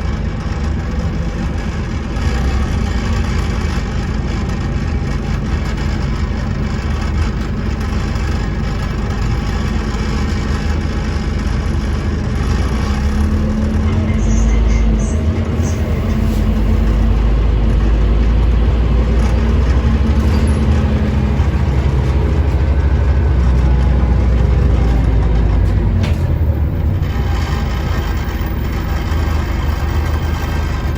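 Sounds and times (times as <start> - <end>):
bus diesel engine rumbling: 0.0 - 30.9
road and body noise: 0.0 - 30.9.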